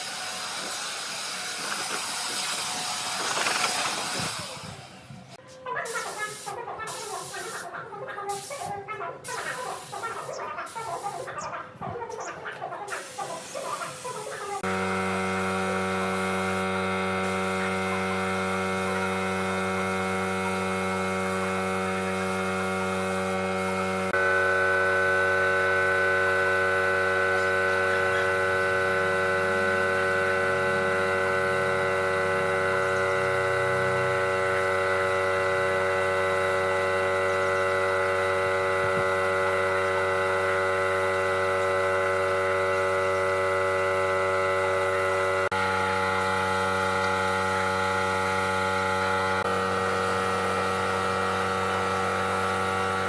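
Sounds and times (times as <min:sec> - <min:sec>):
electrical machine hum: 0:09.8 - 0:53.0.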